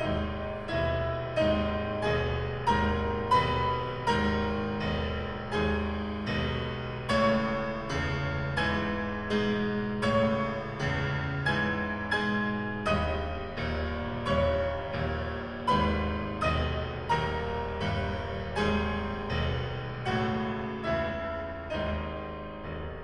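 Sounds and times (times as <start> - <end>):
classical piano chords: 0.0 - 23.0.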